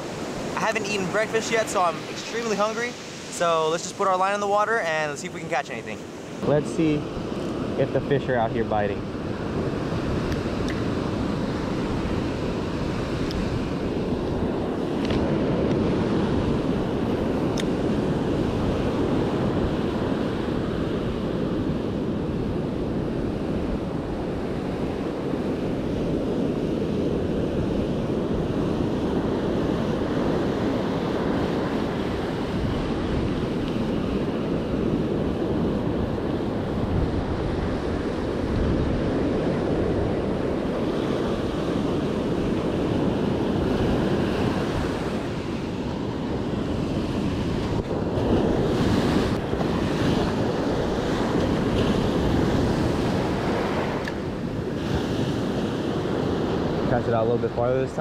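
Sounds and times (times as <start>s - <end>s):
ocean surf breaking: 0.0s - 58.0s
wind buffeting microphone: 0.0s - 58.0s.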